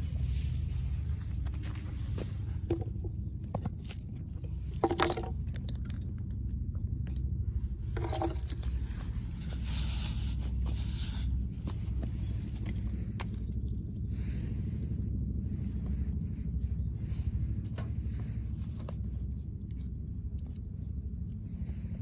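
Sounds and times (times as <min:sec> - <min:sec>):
low fire rumble: 0:00.0 - 0:22.0.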